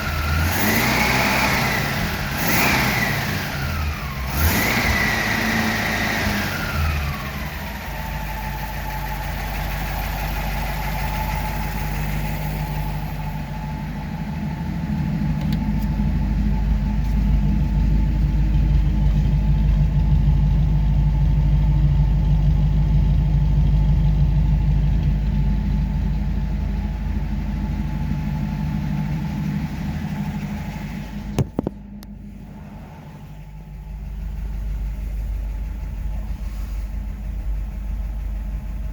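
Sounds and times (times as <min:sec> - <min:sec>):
car engine running with whine: 0:00.0 - 0:38.9.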